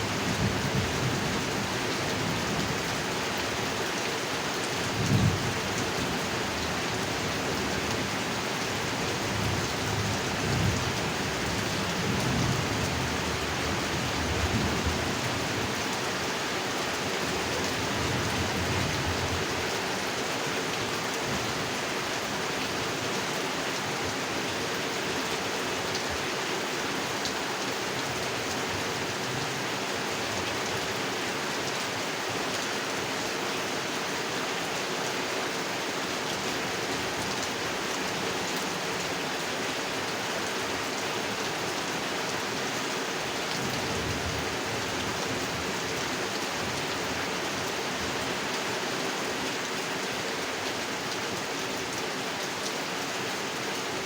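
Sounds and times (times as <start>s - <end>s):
heavy rain on a pond: 0.0s - 54.0s.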